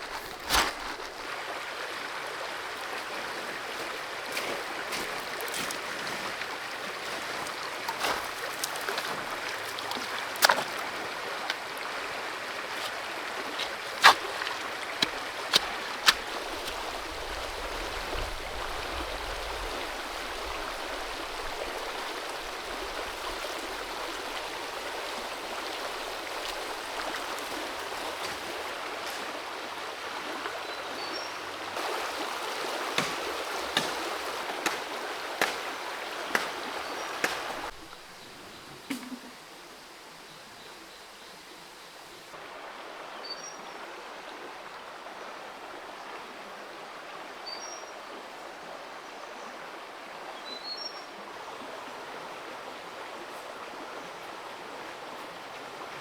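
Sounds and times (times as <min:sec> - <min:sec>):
creek water running: 0:00.0 - 0:56.0.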